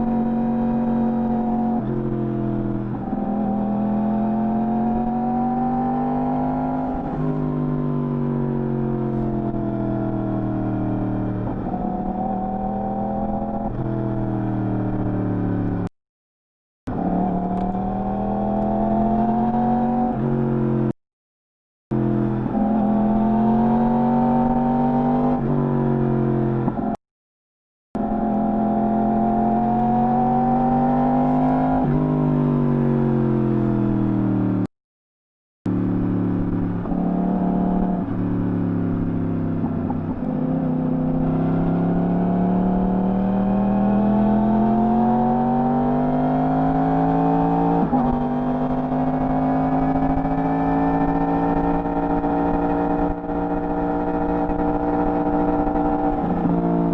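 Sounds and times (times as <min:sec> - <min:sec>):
motorcycle engine revving through gears: 0:00.0 - 0:15.9, 0:16.9 - 0:21.0, 0:21.9 - 0:27.0, 0:28.0 - 0:34.7, 0:35.7 - 0:56.9.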